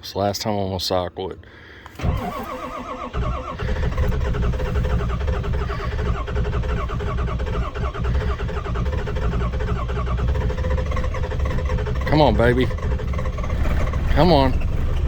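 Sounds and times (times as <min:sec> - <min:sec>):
diesel truck engine cranking: 0:01.9 - 0:15.0.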